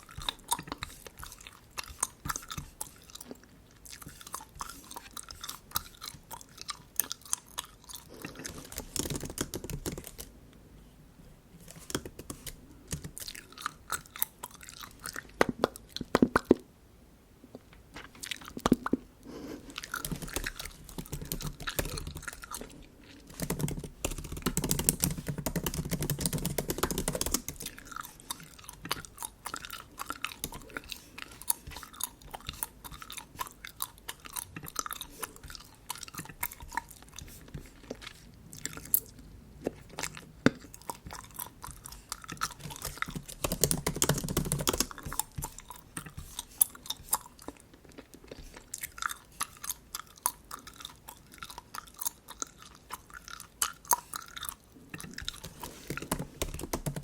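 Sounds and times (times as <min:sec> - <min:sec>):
gum chewing mouth clicks: 0:00.0 - 0:10.3, 0:11.8 - 0:16.6, 0:18.0 - 0:57.0.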